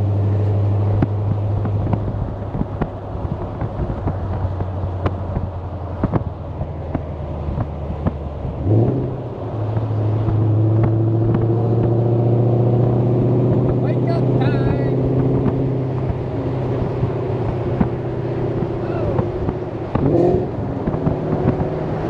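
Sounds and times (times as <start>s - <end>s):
car exhaust drone: 0.0s - 22.0s
exhaust pops and crackles: 0.0s - 22.0s.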